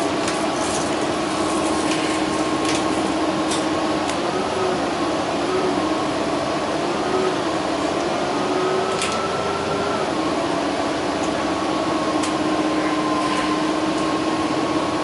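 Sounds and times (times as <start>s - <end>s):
bus drivetrain whine: 0.0s - 15.0s.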